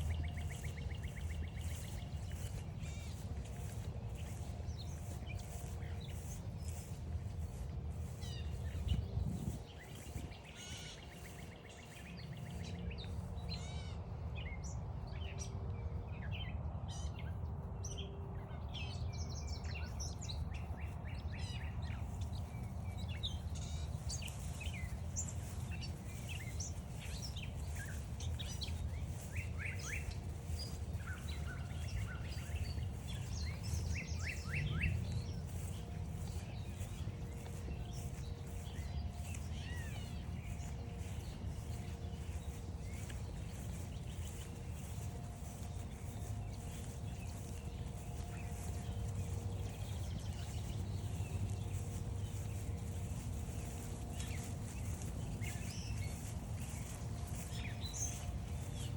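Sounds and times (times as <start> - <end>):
songbirds singing and chirping: 0.0 - 58.9.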